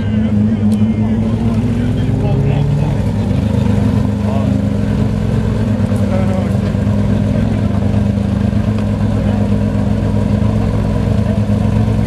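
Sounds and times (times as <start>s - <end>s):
car engine running with loud exhaust: 0.0s - 12.0s.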